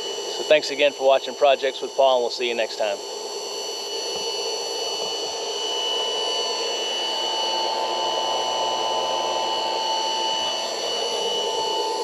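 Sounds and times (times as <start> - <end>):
machine hum with high whine: 0.0 - 12.0.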